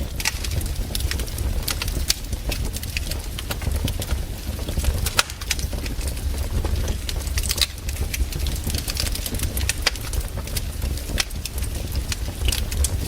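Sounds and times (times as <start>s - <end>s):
campfire crackling and popping: 0.0s - 13.0s
low fire rumble: 0.0s - 13.0s.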